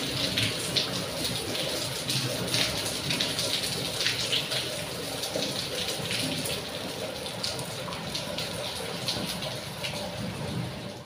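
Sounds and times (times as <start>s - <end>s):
rain pouring and splashing: 0.0s - 11.0s.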